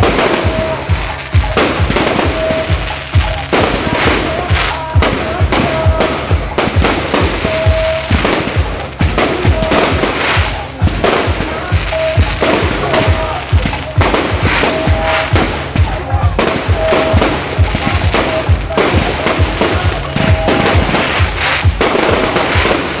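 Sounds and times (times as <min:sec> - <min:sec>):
fireworks bursting and crackling: 0:00.0 - 0:23.0
loud music with bass beat: 0:00.0 - 0:23.0.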